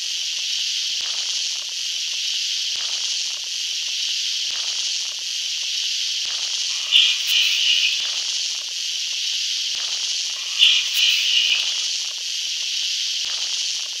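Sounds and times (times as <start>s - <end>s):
static hiss: 0.2s - 14.0s.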